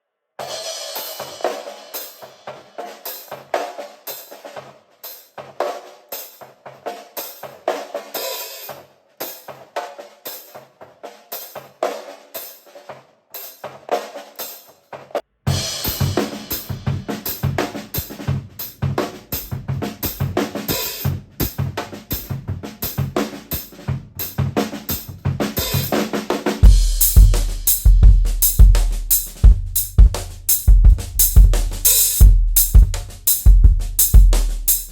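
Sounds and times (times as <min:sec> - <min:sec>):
acoustic drum kit groove: 0:00.4 - 0:34.9.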